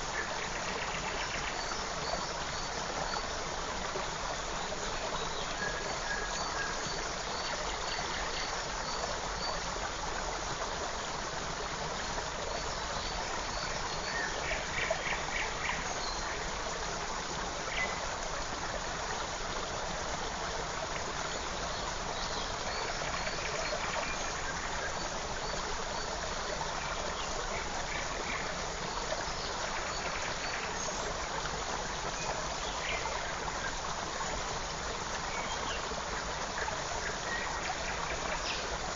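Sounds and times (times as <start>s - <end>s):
forest stream rushing: 0.0s - 38.9s.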